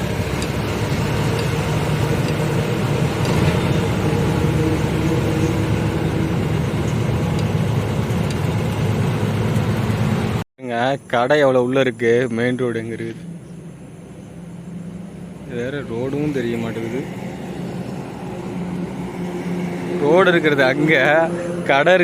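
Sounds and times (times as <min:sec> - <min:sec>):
lorry engine running: 0:00.0 - 0:10.4, 0:12.1 - 0:22.0
road noise: 0:00.0 - 0:22.0.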